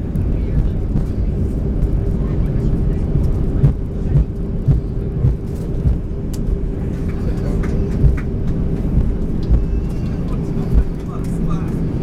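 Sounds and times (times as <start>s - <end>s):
aircraft cabin low rumble: 0.0s - 12.0s
constant hum: 0.0s - 12.0s
low bumps of aircraft rolling: 0.0s - 12.0s.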